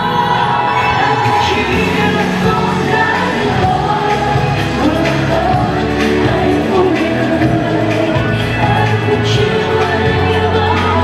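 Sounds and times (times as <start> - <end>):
live pop band playing: 0.0 - 11.0
woman singing into microphone: 0.0 - 11.0.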